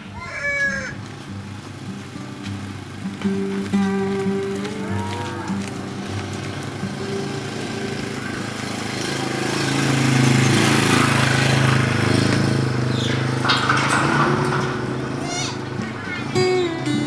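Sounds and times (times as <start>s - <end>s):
small engine running: 0.7s - 17.0s.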